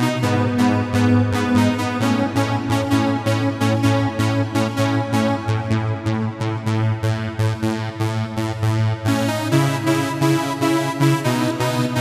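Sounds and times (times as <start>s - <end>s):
synthesizer held bass: 0.0s - 12.0s.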